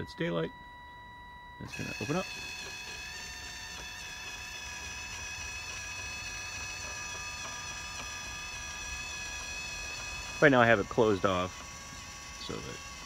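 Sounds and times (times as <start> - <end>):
electric motor whining: 1.5 - 13.0.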